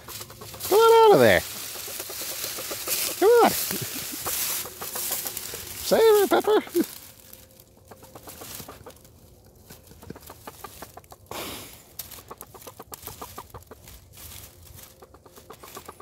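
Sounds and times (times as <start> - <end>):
hen clucking softly: 0.0 - 6.9, 7.8 - 11.3, 12.0 - 16.0
dry leaves rustling: 0.0 - 16.0.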